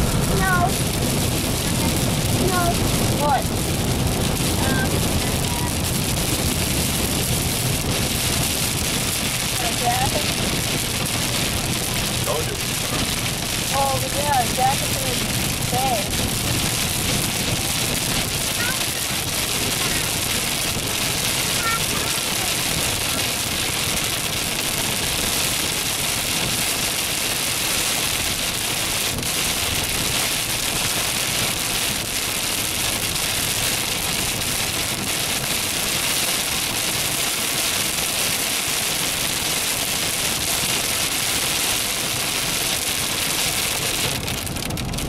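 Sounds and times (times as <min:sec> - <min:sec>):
car wet-road noise: 0:00.0 - 0:45.0
heavy rain on car windshield: 0:00.0 - 0:45.0.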